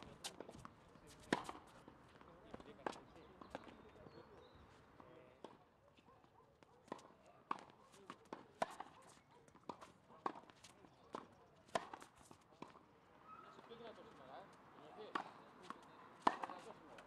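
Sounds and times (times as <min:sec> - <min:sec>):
tennis balls struck and bouncing: 0:00.0 - 0:04.2, 0:06.6 - 0:12.9, 0:13.5 - 0:17.0.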